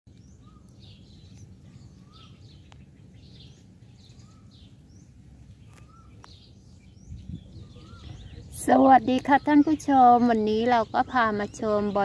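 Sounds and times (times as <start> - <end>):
low steady rumble: 0.1 - 12.0.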